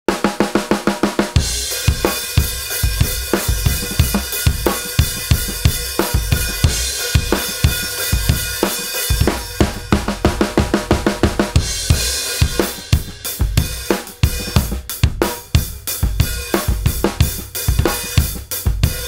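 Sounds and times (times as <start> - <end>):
drum kit playing: 0.1 - 19.0
bass drum kicks: 1.4 - 8.5, 9.2 - 17.9.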